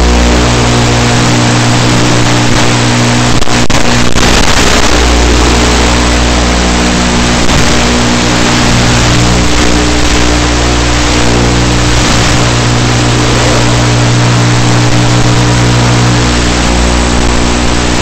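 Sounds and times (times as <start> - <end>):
loud steady buzz: 0.0 - 18.0.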